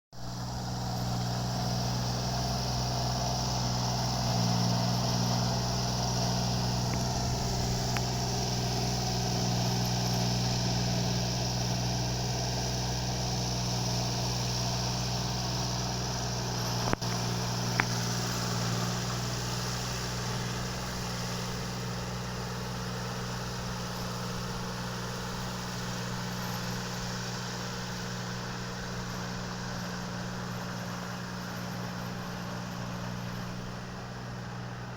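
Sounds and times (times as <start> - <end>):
engine idling: 0.2 - 34.9.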